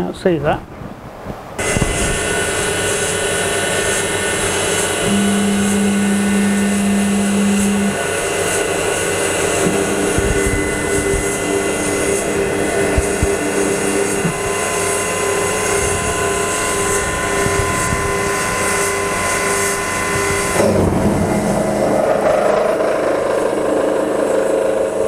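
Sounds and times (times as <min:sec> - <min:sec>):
steady low hum: 0:00.0 - 0:25.0
milling machine running: 0:01.6 - 0:25.0.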